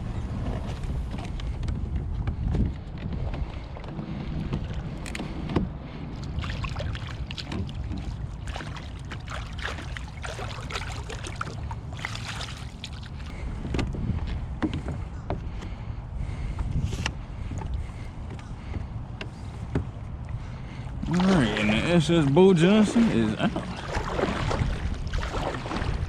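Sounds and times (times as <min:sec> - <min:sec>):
wind rumble on microphone: 0:00.0 - 0:22.2, 0:23.0 - 0:26.0
knocks and splashes against hull: 0:00.3 - 0:26.0.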